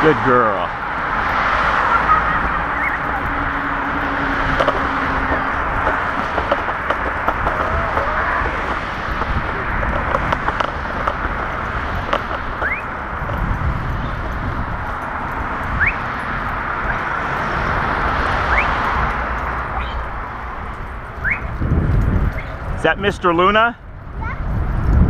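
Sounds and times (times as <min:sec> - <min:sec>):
scooter rolling on pavement: 0:00.0 - 0:25.0.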